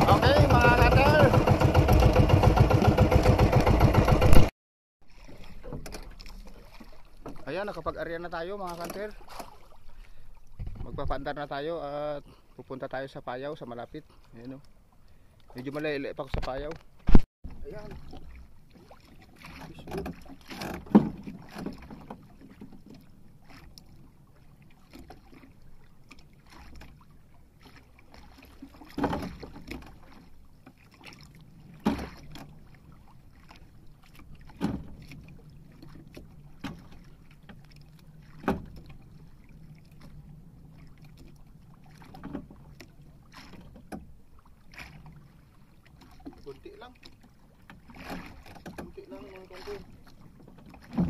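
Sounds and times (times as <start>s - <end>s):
knocks and thumps on boat: 0.0s - 4.5s, 5.1s - 9.8s, 10.5s - 11.4s, 15.6s - 23.8s, 24.8s - 45.3s, 45.9s - 51.0s
wind and sea wash: 0.0s - 51.0s.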